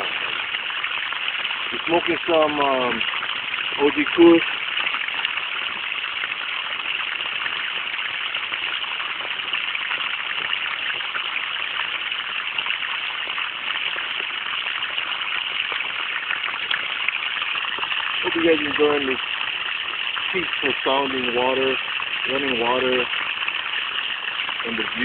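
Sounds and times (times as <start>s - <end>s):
water splashing from a hose: 0.0s - 25.0s.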